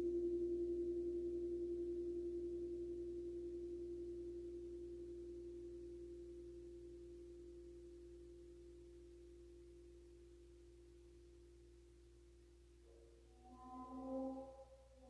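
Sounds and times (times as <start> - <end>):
ringing metal bowl tone: 0.0 - 11.0, 12.9 - 15.0.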